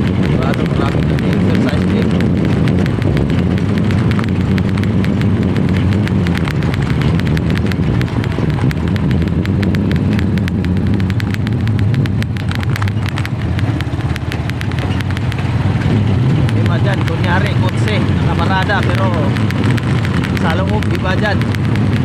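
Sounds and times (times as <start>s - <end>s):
crackling and clicking: 0.0s - 22.0s
road noise rumble: 0.0s - 22.0s
wind noise: 0.0s - 22.0s.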